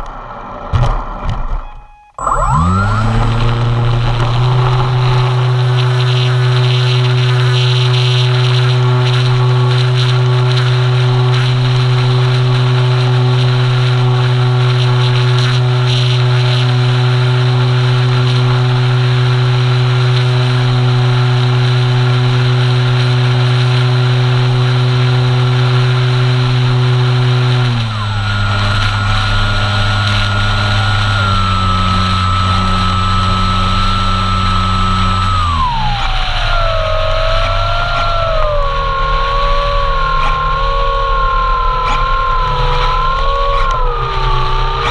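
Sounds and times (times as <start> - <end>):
electric motor and propeller drone: 1.7 - 44.9.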